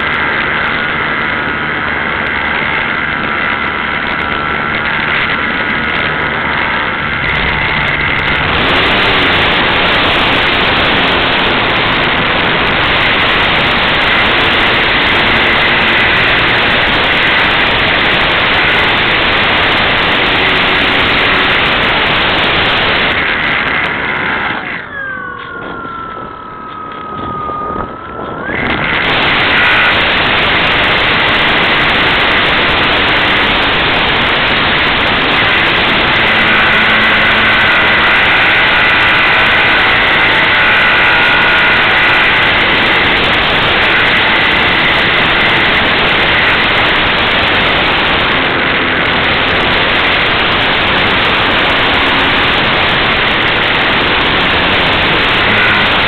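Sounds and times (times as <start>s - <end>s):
model plane electric motor whine: 0.0s - 56.0s
wind buffeting microphone: 0.0s - 56.0s.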